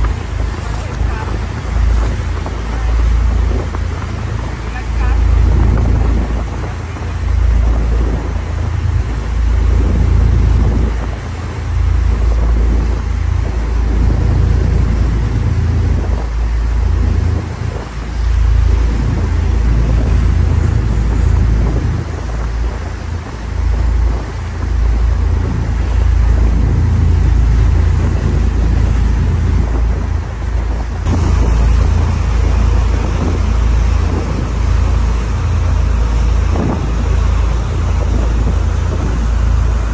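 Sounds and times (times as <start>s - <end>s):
boat engine rumble: 0.0s - 39.9s
rush of water: 0.0s - 39.9s
wind buffeting microphone: 0.0s - 39.9s.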